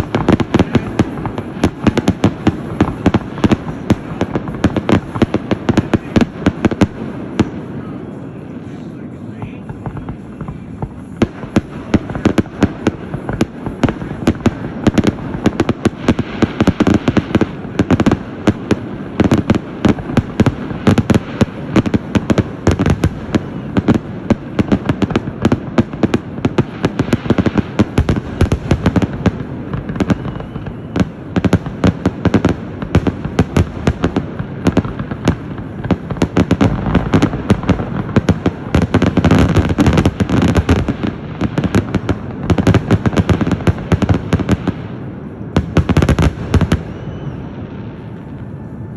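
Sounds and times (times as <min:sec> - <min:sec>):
fireworks bangs and booms: 0:00.0 - 0:48.9.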